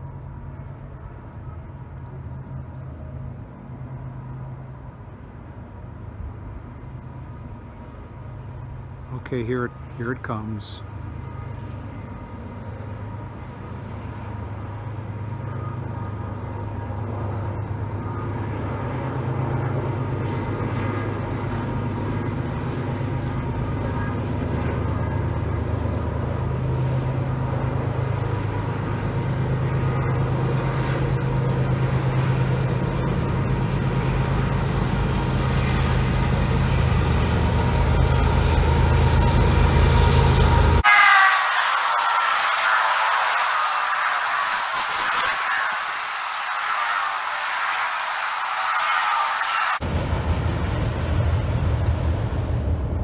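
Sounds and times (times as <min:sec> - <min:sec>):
diesel locomotive engines droning: 0:00.0 - 0:53.0.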